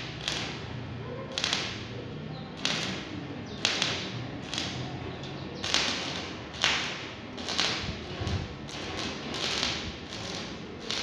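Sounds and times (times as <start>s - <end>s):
welding arc crackling and sizzling: 0.0s - 11.0s.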